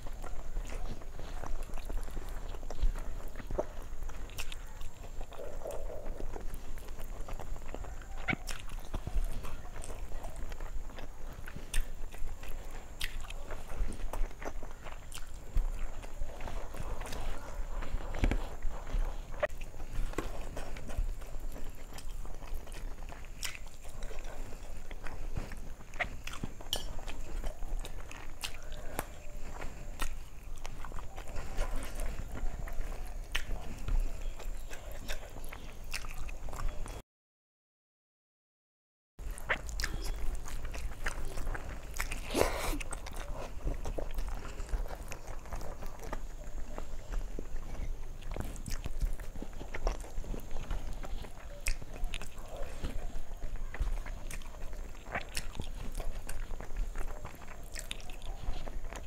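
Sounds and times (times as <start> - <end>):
chewing with wet mouth clicks: 0.0 - 37.0, 39.2 - 59.0.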